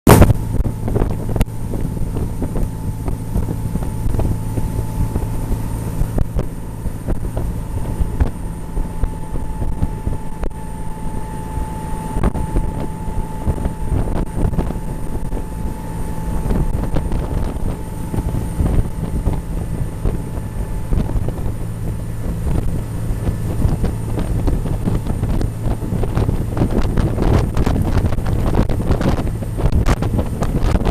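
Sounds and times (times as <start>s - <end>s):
boat engines droning: 0.1s - 30.9s
wind buffeting microphone: 0.1s - 30.9s.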